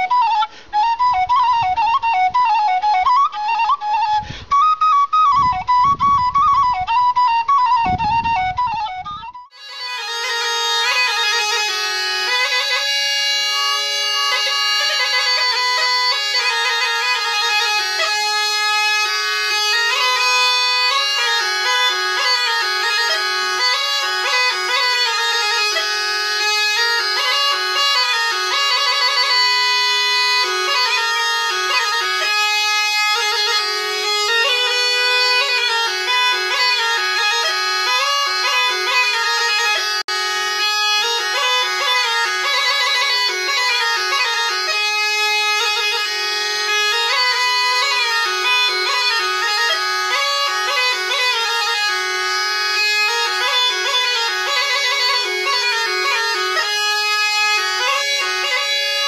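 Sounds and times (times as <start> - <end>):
bagpipe tune with drone: 0.0 - 4.4, 8.3 - 59.0.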